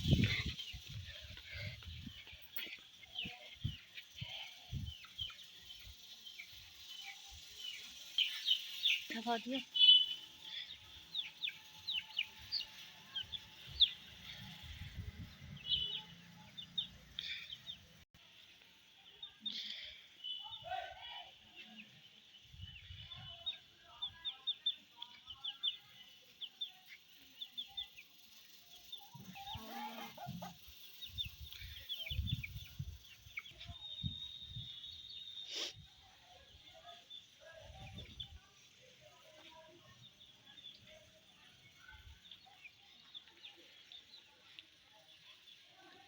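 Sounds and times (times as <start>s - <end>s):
baby chicks peeping: 0.0s - 18.0s, 21.8s - 35.9s, 36.5s - 45.7s.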